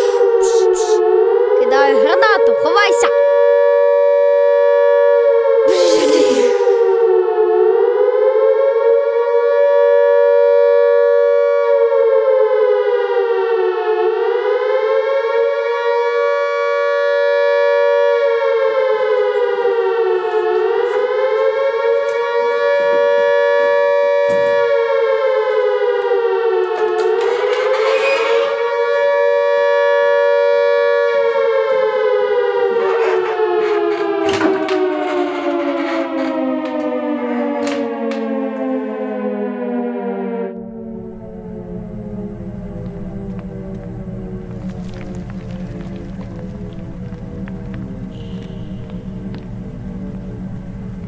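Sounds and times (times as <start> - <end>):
air-raid siren wailing: 0.0 - 51.0.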